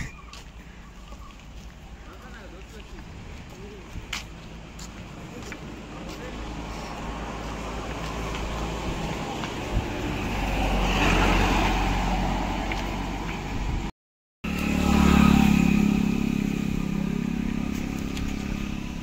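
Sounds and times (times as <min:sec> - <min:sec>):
vehicles passing close by: 0:00.0 - 0:19.0.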